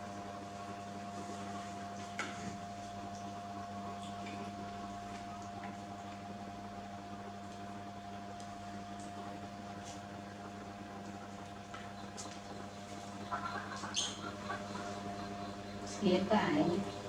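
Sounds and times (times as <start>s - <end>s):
machine-like hum: 0.0s - 17.0s.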